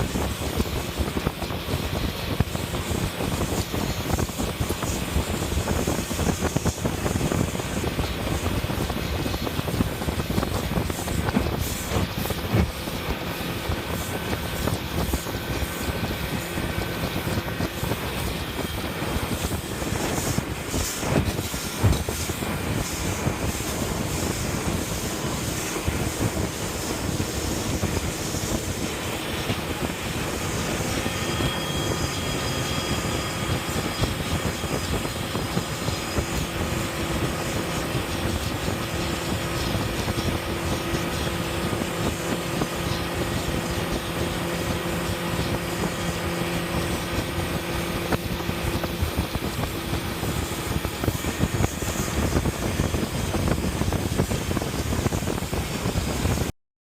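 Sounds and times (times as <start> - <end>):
rushing wind and water: 0.0 - 56.5
speedboat engine drone: 0.0 - 56.5.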